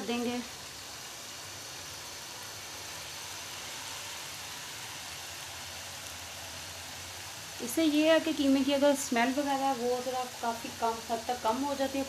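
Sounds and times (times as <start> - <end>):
masala sizzling in a wok: 0.0 - 12.0.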